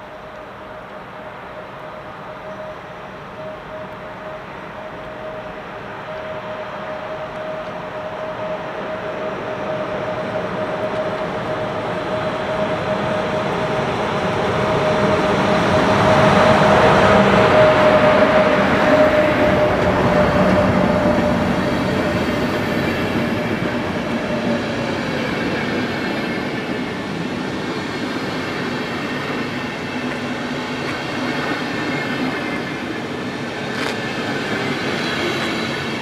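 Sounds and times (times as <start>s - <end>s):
electric locomotive whine: 0.0s - 36.0s
train wheels rumbling on rails: 0.0s - 36.0s.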